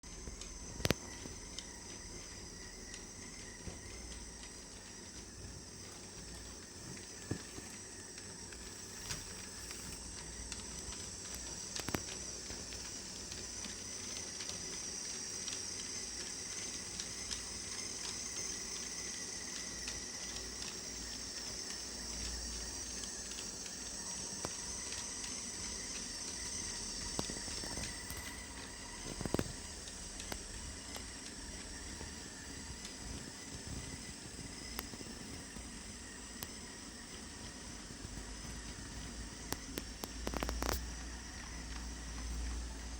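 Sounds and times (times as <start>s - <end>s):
model locomotive motor whirring: 0.0s - 42.9s.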